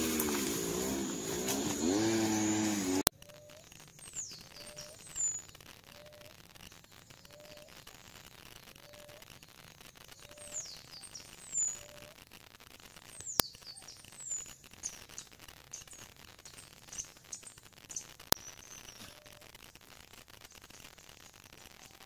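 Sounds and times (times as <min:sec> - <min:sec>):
birds chirping: 0:00.0 - 0:12.1, 0:12.9 - 0:22.0.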